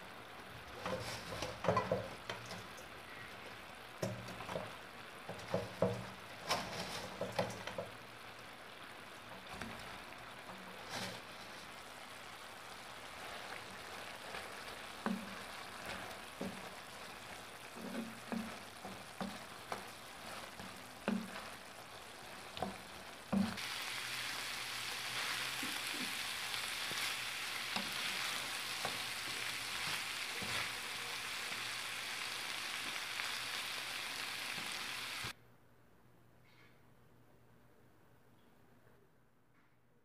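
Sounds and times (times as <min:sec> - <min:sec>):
meat sizzling in a pan: 0:00.0 - 0:35.3.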